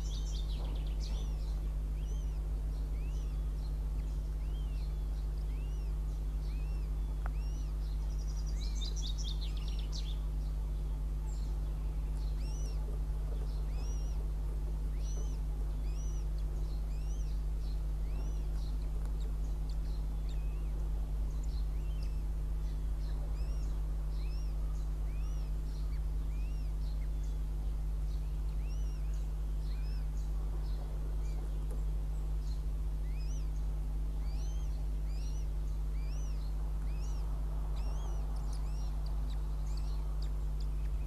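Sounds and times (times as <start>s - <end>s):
bird chicks begging peeps: 0.0s - 41.0s
steady low hum: 0.0s - 41.0s.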